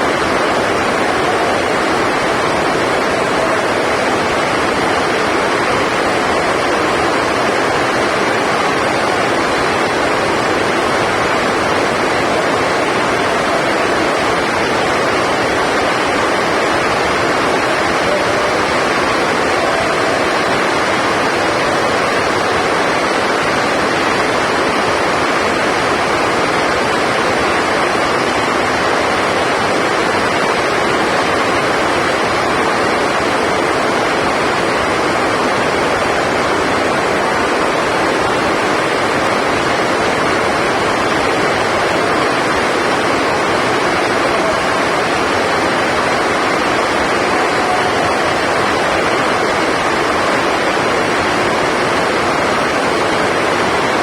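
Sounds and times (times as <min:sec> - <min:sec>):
loud steady rushing noise: 0:00.0 - 0:54.0.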